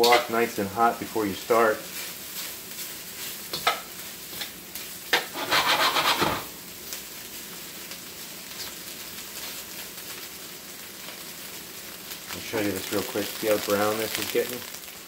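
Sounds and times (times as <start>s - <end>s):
beef sizzling in a wok: 0.0s - 15.0s.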